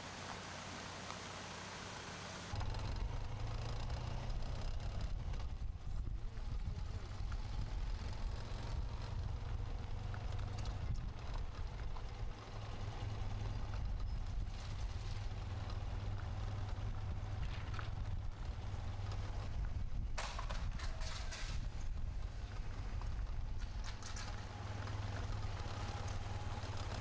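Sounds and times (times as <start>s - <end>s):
car interior rumble: 0.0s - 27.0s.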